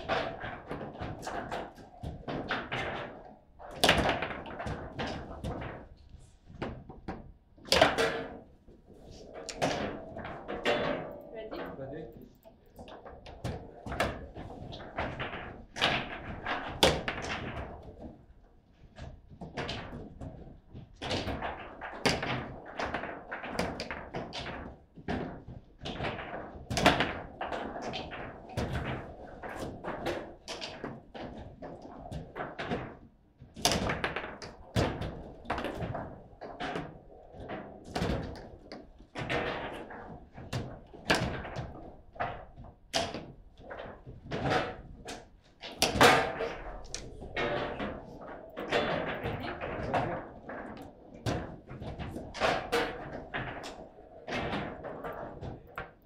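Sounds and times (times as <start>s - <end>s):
foosball knocks and clacks: 0.0s - 8.5s, 9.1s - 56.0s.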